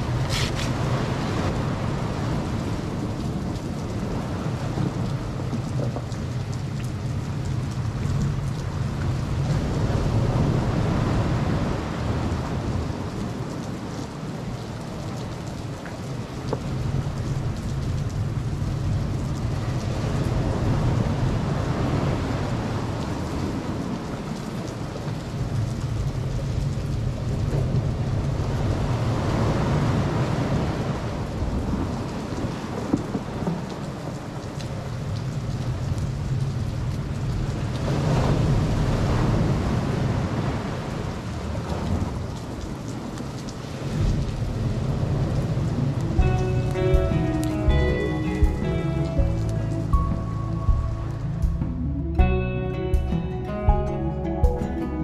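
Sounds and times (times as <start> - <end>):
ocean surf: 0.0 - 55.0.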